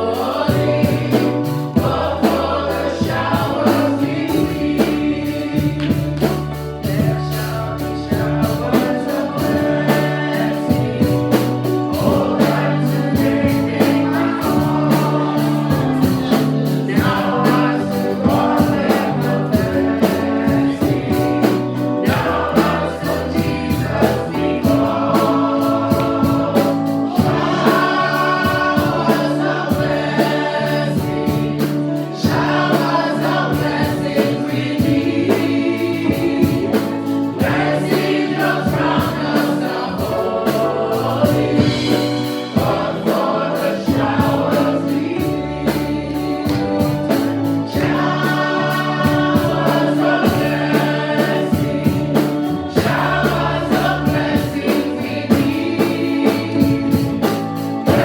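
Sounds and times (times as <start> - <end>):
band with bass and keyboard: 0.0 - 58.0
choir singing gospel music: 0.0 - 58.0.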